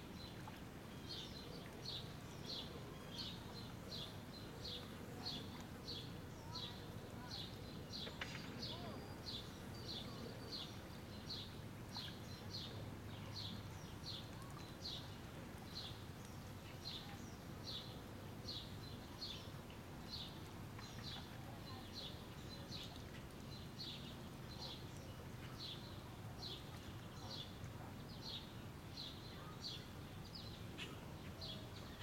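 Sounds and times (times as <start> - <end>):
faint low background noise: 0.0 - 32.0.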